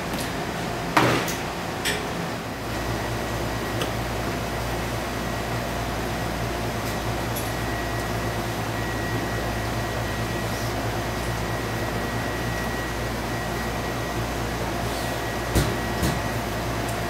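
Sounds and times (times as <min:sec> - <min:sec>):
machine hum and hiss: 0:00.0 - 0:17.0.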